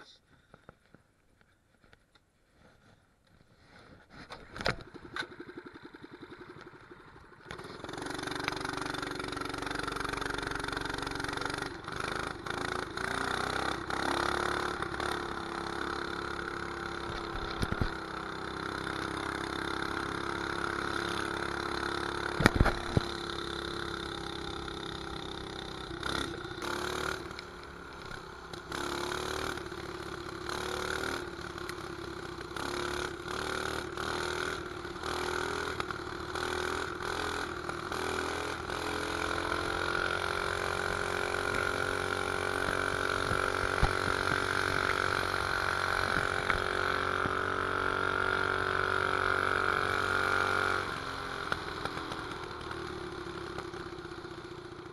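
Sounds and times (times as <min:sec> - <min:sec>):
mini bike engine running: 0:04.2 - 0:54.9.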